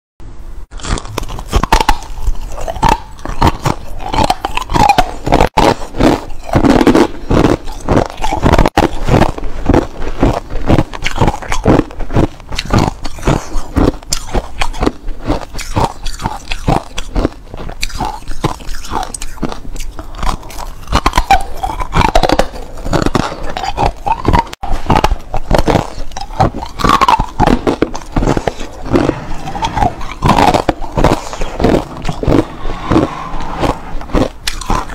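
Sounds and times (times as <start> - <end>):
ice being chewed: 0.8 - 34.9.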